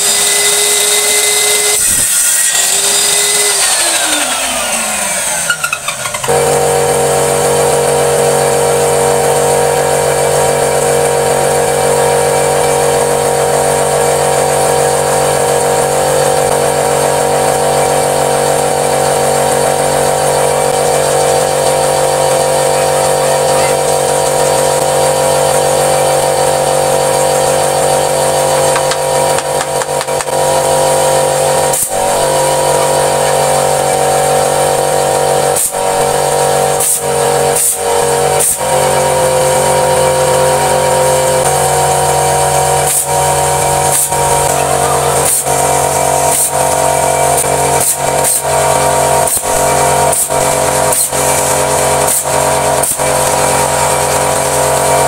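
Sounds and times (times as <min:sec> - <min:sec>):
power tool motor whining: 0:00.0 - 0:55.0.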